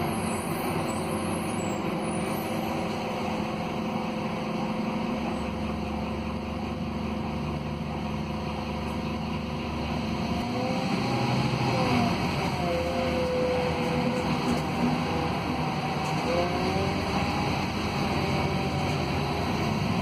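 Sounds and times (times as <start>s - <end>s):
bus diesel engine running: 0.0s - 20.0s
rising engine whine: 0.0s - 20.0s.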